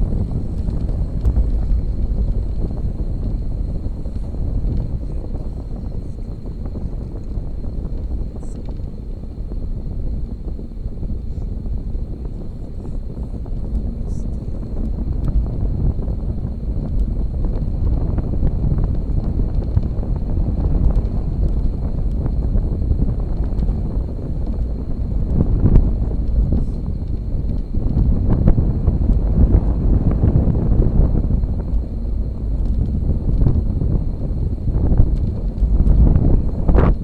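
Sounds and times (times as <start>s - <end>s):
faint thin steady whine: 0.0s - 37.0s
road noise: 0.0s - 37.0s
wind rumbling on microphone: 0.0s - 37.0s.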